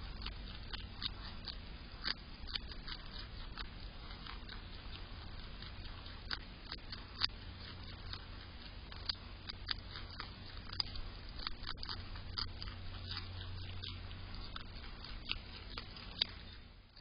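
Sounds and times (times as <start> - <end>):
groundhog chewing food: 0.0 - 17.0.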